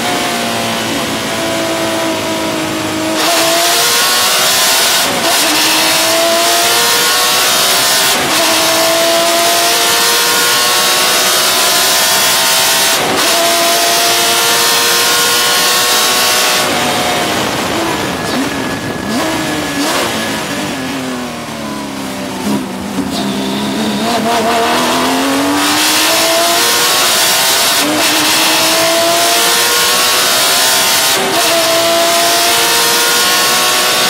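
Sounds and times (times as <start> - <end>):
racing car engine revving: 0.0 - 34.0.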